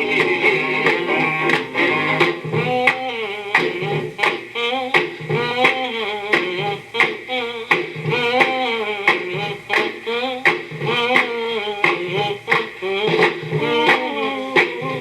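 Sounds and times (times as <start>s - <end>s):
person singing over drum beat: 0.0s - 15.0s
rock and roll record playing: 0.0s - 15.0s.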